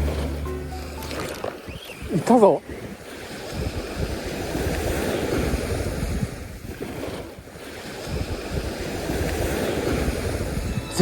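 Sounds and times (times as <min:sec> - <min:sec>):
waves washing onto sand: 0:00.0 - 0:11.0
wind buffeting microphone: 0:00.0 - 0:11.0.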